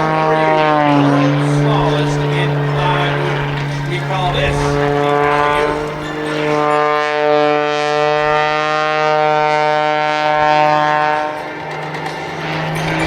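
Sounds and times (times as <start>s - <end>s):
biplane engine droning: 0.0s - 13.0s.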